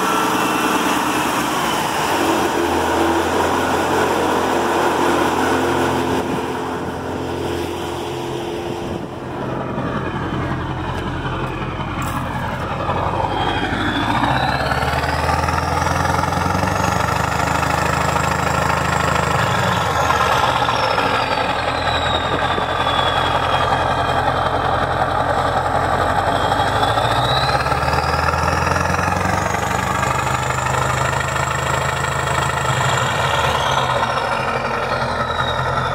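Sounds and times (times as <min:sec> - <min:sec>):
diesel truck engine revving: 0:00.0 - 0:35.9
high engine whine: 0:00.0 - 0:35.9.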